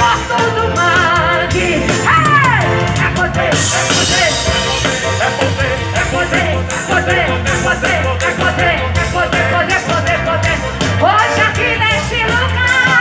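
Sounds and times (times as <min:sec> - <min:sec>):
live band playing gospel song: 0:00.0 - 0:13.0
person singing: 0:00.0 - 0:13.0.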